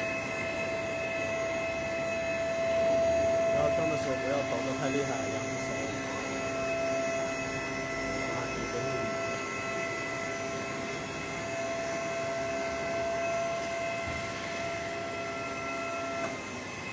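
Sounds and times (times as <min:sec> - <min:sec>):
high steady tones: 0:00.0 - 0:16.2
furnace equipment humming: 0:00.0 - 0:16.9.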